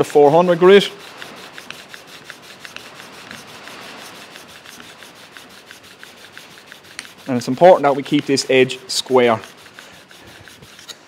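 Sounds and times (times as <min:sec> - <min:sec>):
scraper rasping on sharpening stone: 0:00.0 - 0:11.0.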